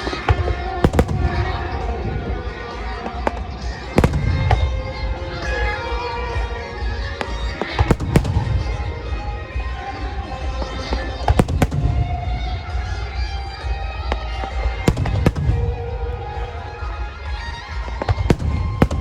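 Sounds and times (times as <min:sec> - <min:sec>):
firework shells bursting: 0:00.0 - 0:19.0
low rumble of fireworks: 0:00.0 - 0:19.0
music: 0:00.0 - 0:19.0.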